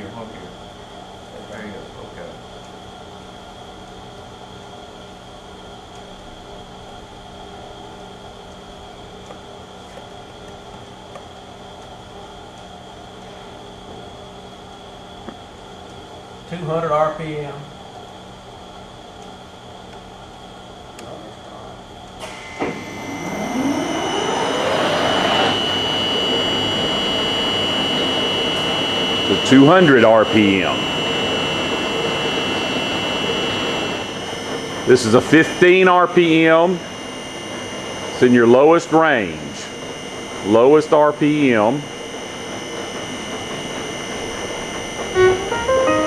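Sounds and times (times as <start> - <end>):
boring mill humming and whining: 0.0 - 46.0.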